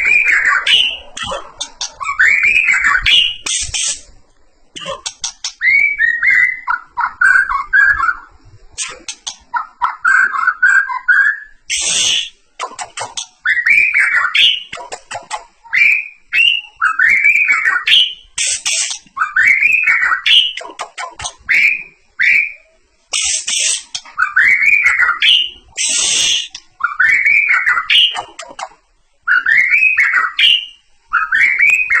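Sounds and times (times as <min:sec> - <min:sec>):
bird whistling song: 0:00.0 - 0:04.0, 0:05.2 - 0:28.4, 0:29.2 - 0:32.0
harsh rasping bird calls: 0:00.0 - 0:04.2, 0:04.8 - 0:32.0.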